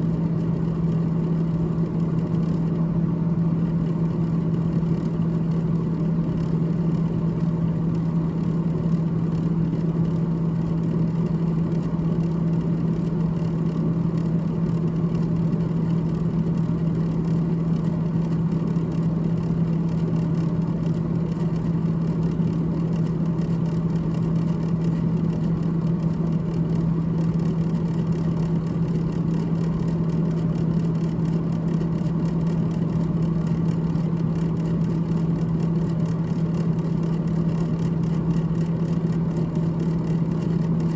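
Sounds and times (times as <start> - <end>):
constant low hum: 0.0 - 40.9
refrigerator fan whirring: 0.0 - 40.9.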